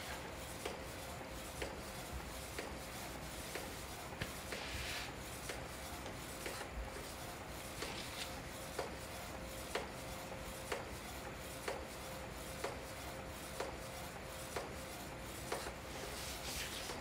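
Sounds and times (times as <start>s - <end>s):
faint printer hum: 0.0s - 17.0s.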